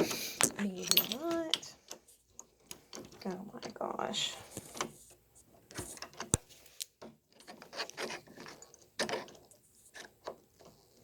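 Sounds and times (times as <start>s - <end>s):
metal lock parts scraping and clicking: 0.0s - 4.1s, 4.7s - 11.0s.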